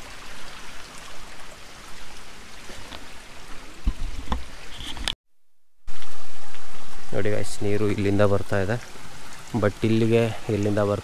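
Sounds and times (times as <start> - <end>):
stream water trickling: 0.0 - 5.2, 5.9 - 11.0.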